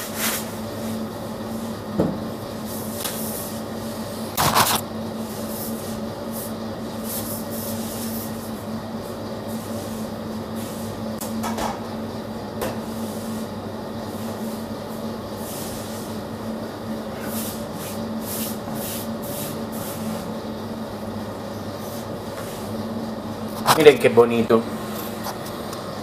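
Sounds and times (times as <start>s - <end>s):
kitchen machinery hum: 0.0s - 26.0s.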